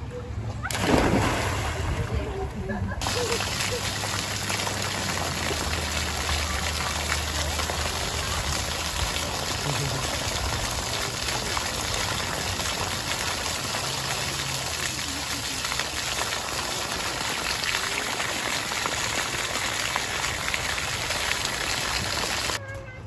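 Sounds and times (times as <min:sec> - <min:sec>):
fountain jets spraying: 0:00.7 - 0:22.6
water pattering on concrete: 0:03.0 - 0:22.6.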